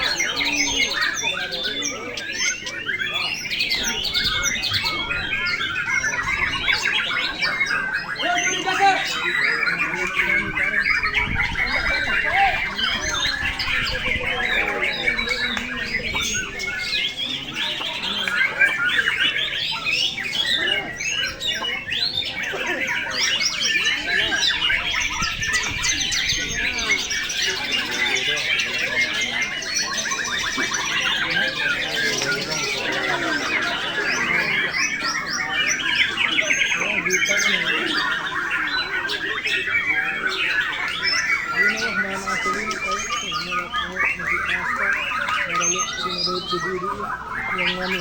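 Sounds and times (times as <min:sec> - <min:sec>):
birds chirping and trilling: 0:00.0 - 0:48.0
songbirds singing: 0:00.0 - 0:48.0.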